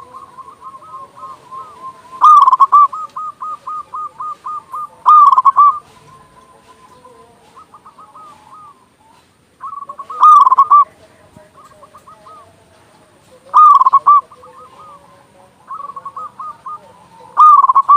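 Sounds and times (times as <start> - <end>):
dove cooing: 0.0 - 17.9.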